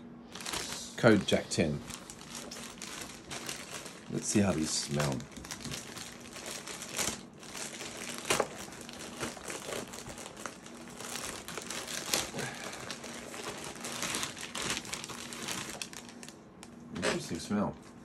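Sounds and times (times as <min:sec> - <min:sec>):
plastic bag crinkling: 0:00.3 - 0:16.7.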